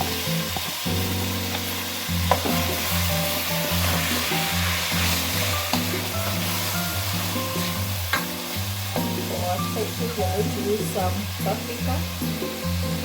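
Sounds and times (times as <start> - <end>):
background music with low notes: 0.0 - 13.0
vegetables sizzling in oil: 0.0 - 13.0.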